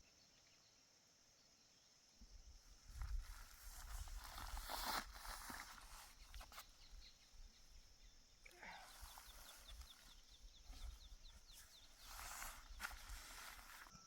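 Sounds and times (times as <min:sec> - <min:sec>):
soft rustling: 0:02.7 - 0:14.0.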